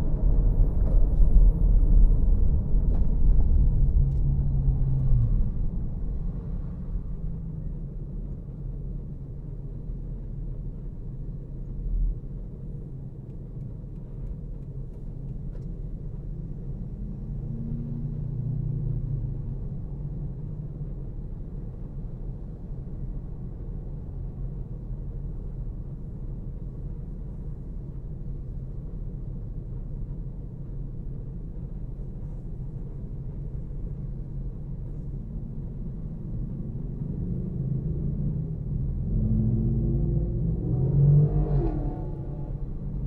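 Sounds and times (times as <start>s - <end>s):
low rumble inside car: 0.0s - 43.0s
traffic crossing intersection: 0.0s - 43.0s.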